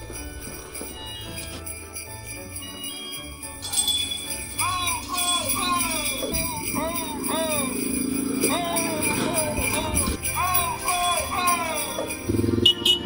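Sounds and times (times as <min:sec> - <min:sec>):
christmas music: 0:00.0 - 0:13.0
sleigh bells ringing: 0:00.0 - 0:13.0.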